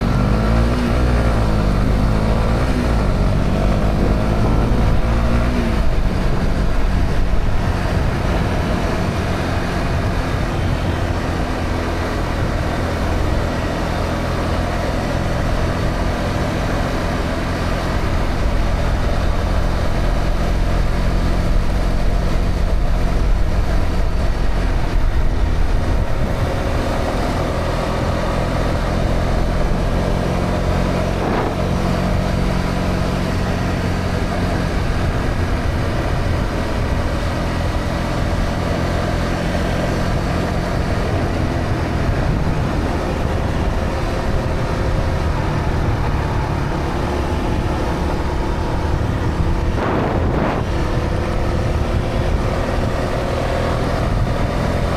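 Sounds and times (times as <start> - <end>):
motorcycle engine running: 0.0 - 54.9
wind and road noise: 0.0 - 54.9.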